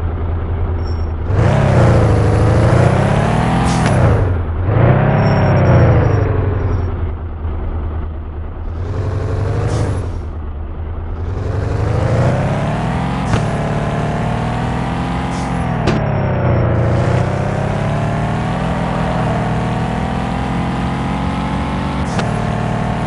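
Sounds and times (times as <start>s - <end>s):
van engine accelerating: 0.0s - 23.0s.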